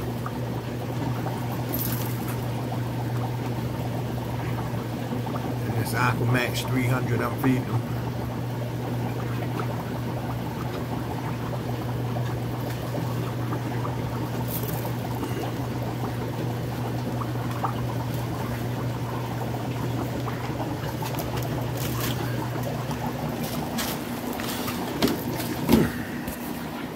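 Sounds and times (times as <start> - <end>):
filter motor hum: 0.0 - 26.9
water trickling: 0.0 - 26.9.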